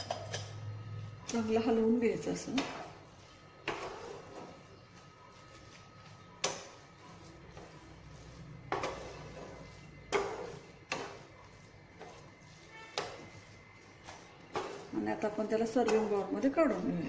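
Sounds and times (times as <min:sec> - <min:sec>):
spatula scraping a pan: 0:00.1 - 0:17.0.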